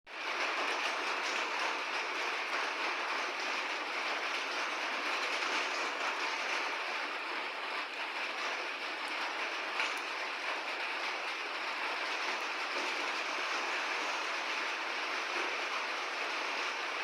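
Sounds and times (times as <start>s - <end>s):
steady rain falling: 0.1s - 17.0s.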